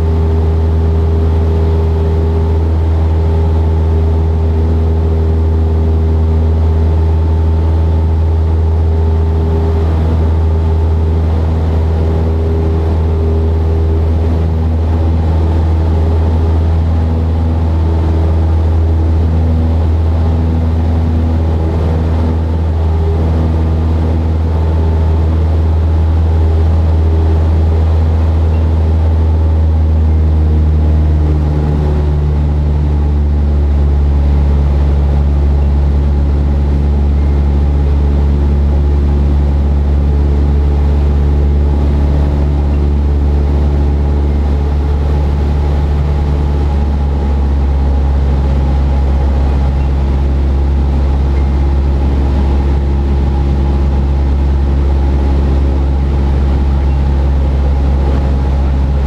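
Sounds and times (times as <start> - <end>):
plane engine droning in cabin: 0.0 - 59.0.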